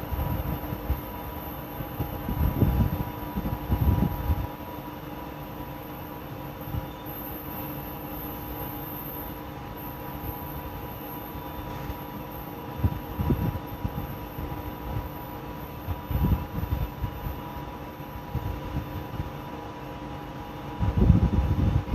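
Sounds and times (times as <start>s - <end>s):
freight train rail rumble: 0.0s - 21.9s.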